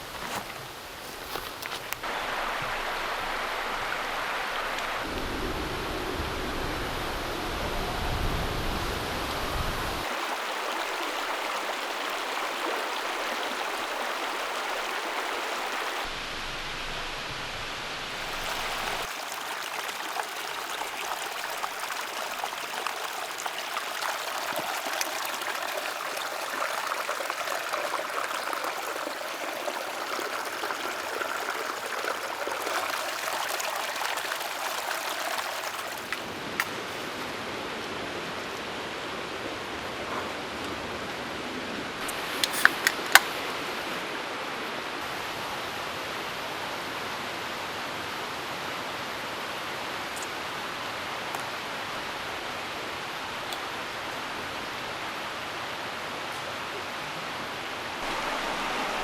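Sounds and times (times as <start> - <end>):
stream water rushing: 0.0 - 16.1, 18.1 - 59.0.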